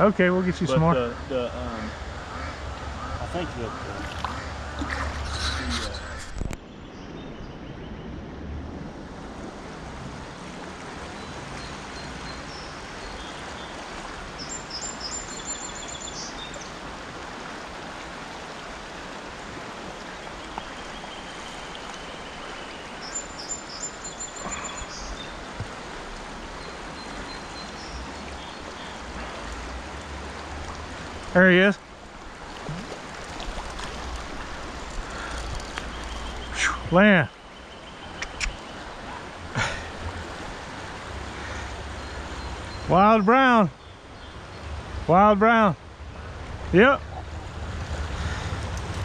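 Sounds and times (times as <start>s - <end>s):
creek water rushing: 0.0s - 7.3s, 8.2s - 49.0s
songbird singing: 0.0s - 8.4s, 10.3s - 16.8s, 20.0s - 49.0s.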